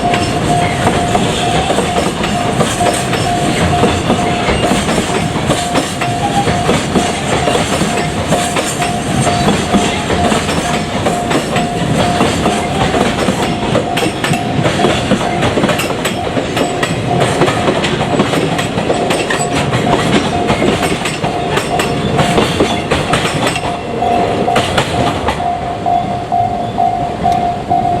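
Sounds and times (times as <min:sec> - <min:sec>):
train wheels clattering over rail joints: 0:00.0 - 0:25.5
level crossing warning bell: 0:00.0 - 0:28.0.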